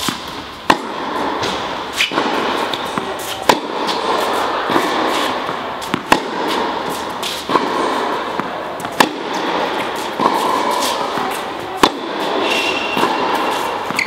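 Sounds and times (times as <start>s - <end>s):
indoor hall background noise: 0.0s - 14.0s
tennis ball bouncing: 0.0s - 14.0s
tennis ball racket hits: 0.0s - 14.0s.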